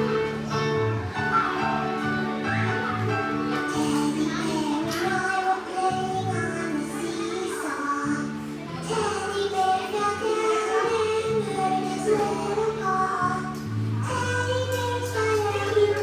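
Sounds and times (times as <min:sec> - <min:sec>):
backing music with bass: 0:00.0 - 0:16.0
high singing voice: 0:00.0 - 0:16.0.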